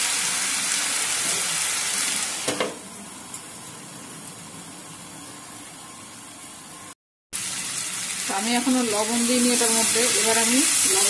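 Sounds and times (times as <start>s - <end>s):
vegetables frying in oil: 0.0s - 11.0s.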